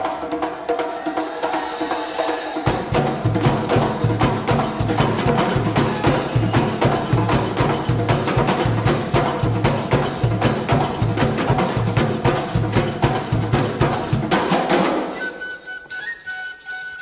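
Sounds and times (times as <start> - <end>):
drum and wood-block strokes: 0.0 - 17.0.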